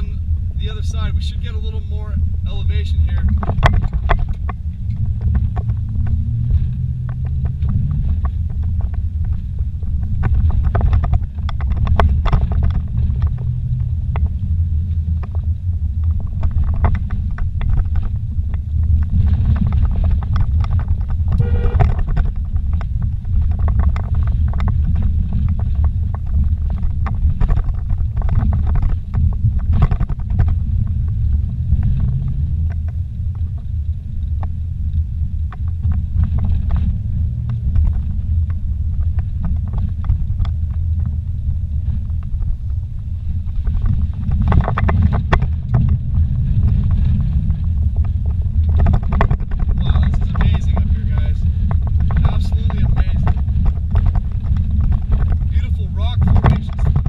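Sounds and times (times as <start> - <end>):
vehicle bumping knocks and clicks: 0.0 - 57.0
vehicle engine and tyres rumbling: 0.0 - 57.0.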